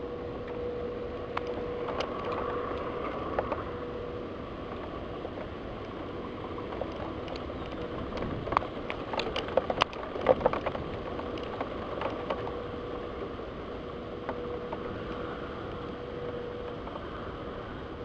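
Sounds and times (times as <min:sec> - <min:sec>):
faint steady hum: 0:00.0 - 0:18.0
steady rain: 0:00.0 - 0:18.0.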